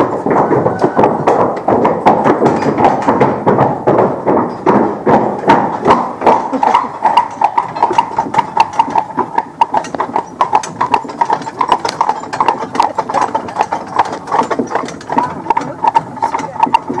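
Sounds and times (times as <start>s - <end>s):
horse hooves clip-clopping on road: 0.0s - 17.0s.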